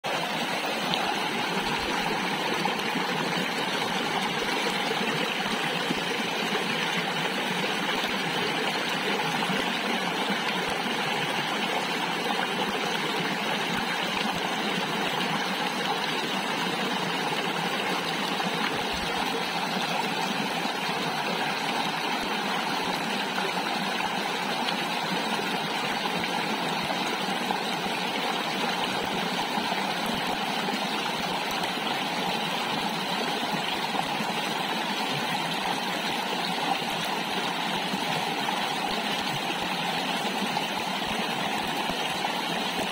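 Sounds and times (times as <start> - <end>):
stream rushing over stones: 0.1 - 42.9.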